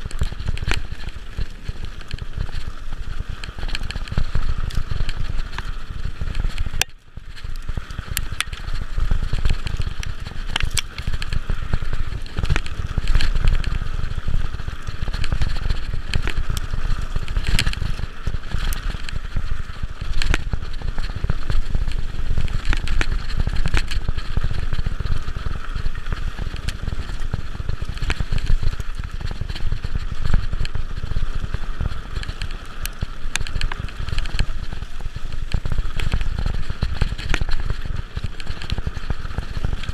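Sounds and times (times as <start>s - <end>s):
bike rolling rumble: 0.0s - 39.9s
clicks and rattles from bike: 0.0s - 39.9s.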